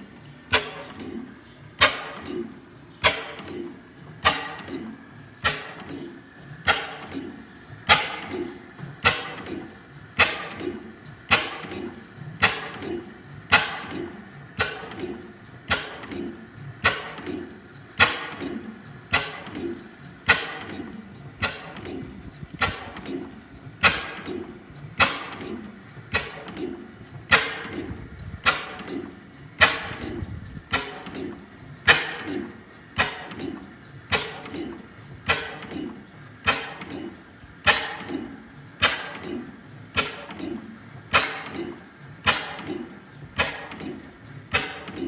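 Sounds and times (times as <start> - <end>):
light engine clicks: 0.0 - 45.0
oil engine knocking: 0.5 - 45.0.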